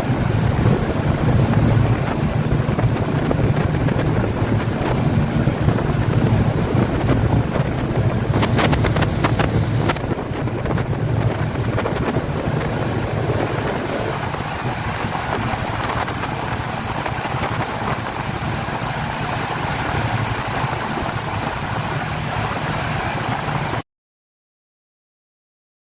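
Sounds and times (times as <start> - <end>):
speedboat engine running: 0.0 - 23.8
water rushing past hull: 0.0 - 23.8
wind buffeting microphone: 0.0 - 23.8.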